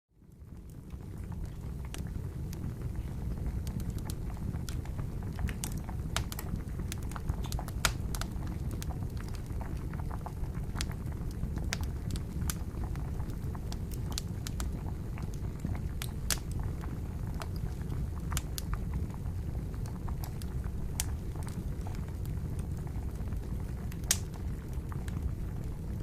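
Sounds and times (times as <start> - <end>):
campfire crackling and popping: 0.2 - 26.0
water boiling: 0.2 - 26.0.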